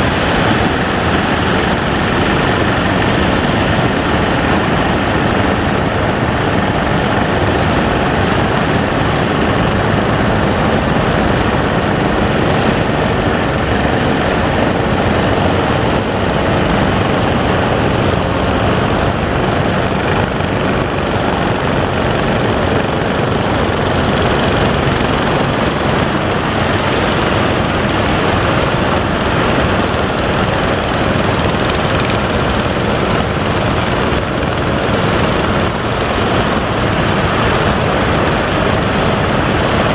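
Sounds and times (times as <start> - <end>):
boat engine running: 0.0 - 39.9
constant rushing noise: 0.0 - 39.9.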